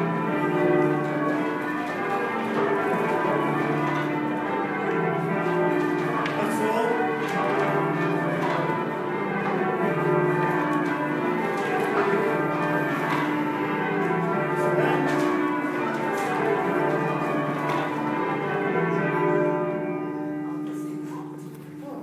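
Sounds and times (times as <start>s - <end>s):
church bells change ringing: 0.0s - 22.0s.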